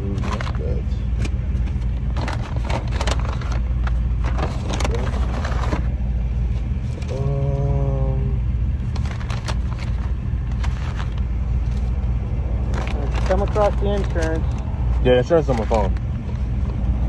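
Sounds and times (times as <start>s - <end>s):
rummaging through papers: 0.0s - 7.3s, 8.8s - 16.8s
car engine idling: 0.0s - 17.0s.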